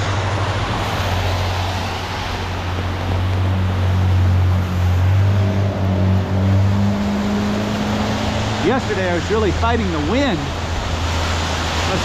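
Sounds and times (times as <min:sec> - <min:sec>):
tyres hissing on wet road: 0:00.0 - 0:12.0
vehicle engine hum: 0:00.0 - 0:12.0.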